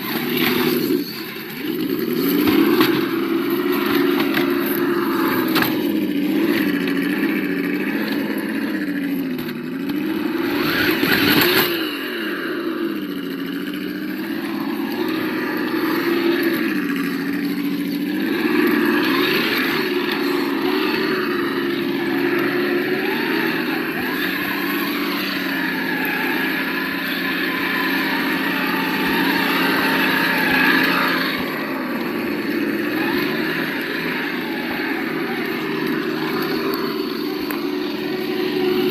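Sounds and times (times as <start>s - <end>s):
simulated engine sound: 0.0s - 38.9s.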